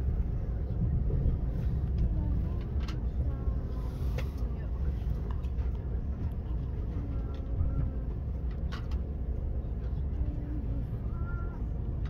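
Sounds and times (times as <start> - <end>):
passenger train rumbling: 0.0 - 12.0.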